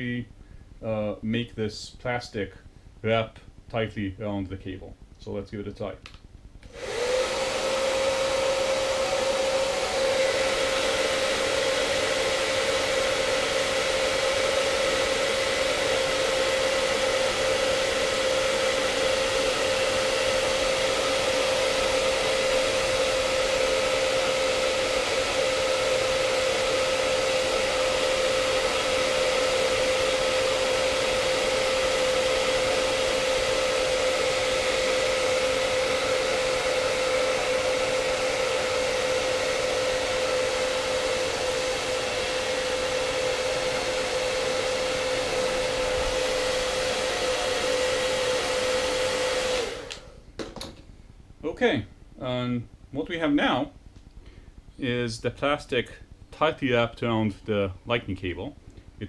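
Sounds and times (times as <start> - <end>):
hot-air blower motor whine: 4.9 - 56.7.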